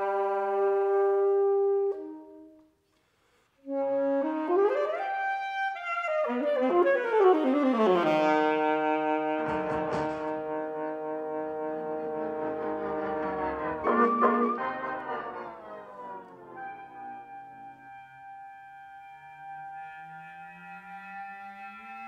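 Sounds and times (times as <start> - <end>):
alto saxophone playing: 0.0 - 2.8, 3.6 - 22.0.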